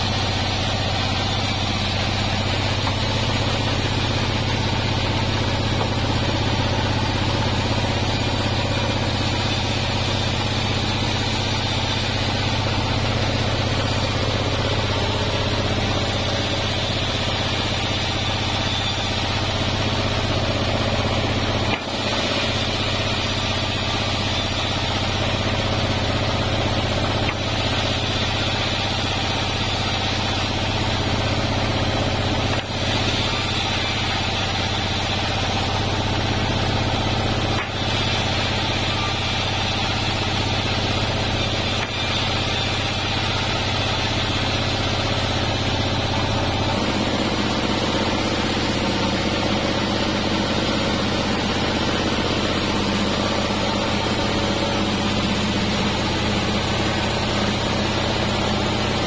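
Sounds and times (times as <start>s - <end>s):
band saw motor drone: 0.0s - 59.0s
saw blade cutting wood: 0.0s - 59.0s.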